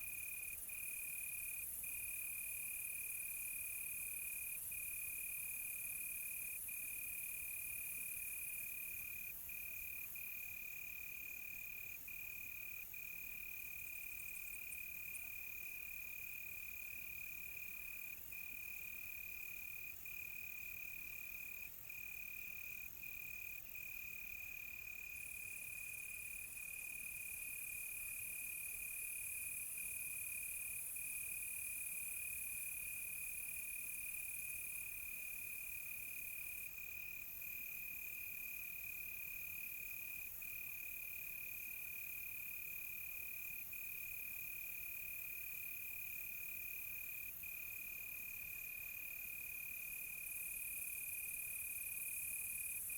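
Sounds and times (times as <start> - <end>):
crickets chirping: 0.0 - 52.9.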